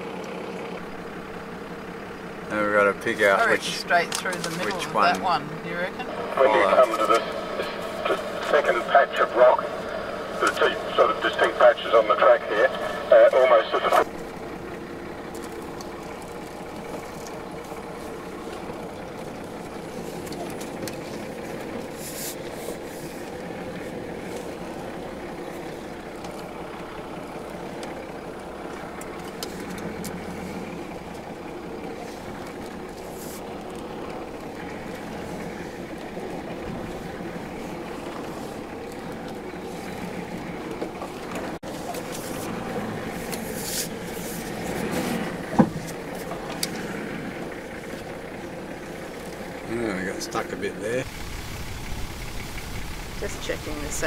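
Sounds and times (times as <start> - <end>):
car engine running at low revs: 0.0 - 54.0.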